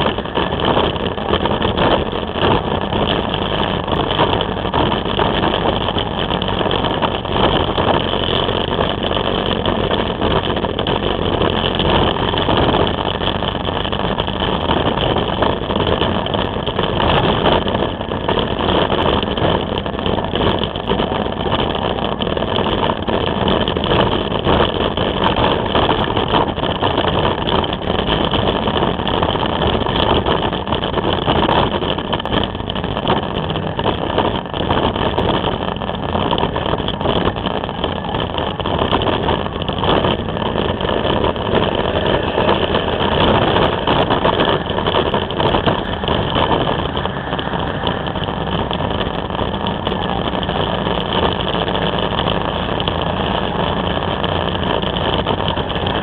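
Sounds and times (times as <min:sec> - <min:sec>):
motorcycle engine: 0:00.0 - 0:56.0
road noise: 0:00.0 - 0:56.0.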